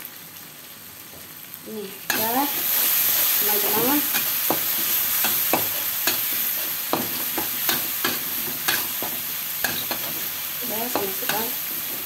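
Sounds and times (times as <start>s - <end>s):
oil sizzling: 0.0s - 12.0s
metal spatula scraping a wok: 2.1s - 12.0s.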